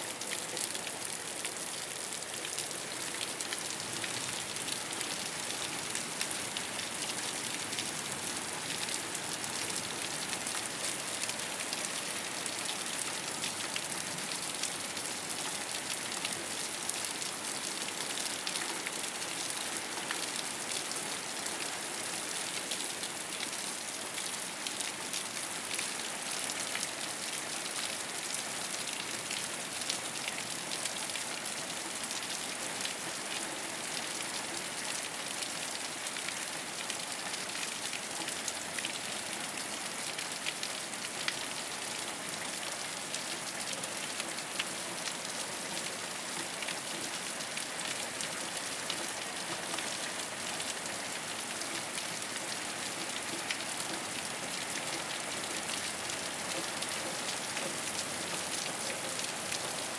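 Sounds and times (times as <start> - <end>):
rain falling on a rooftop: 0.0 - 59.9.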